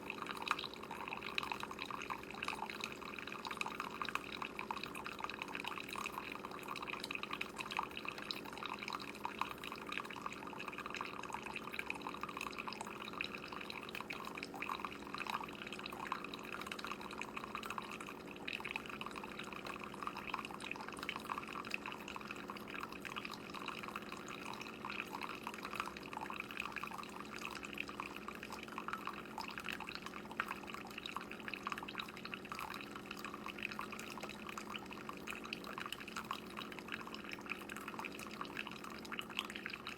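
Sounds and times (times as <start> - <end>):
coffee dripping into cup: 0.0 - 39.9
coffee maker humming: 0.0 - 39.9.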